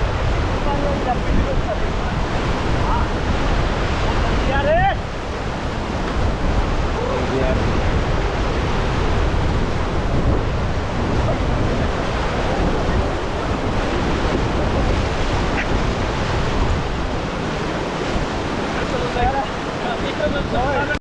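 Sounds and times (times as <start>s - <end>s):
rushing whitewater: 0.0s - 21.0s
wind buffeting microphone: 0.0s - 21.0s.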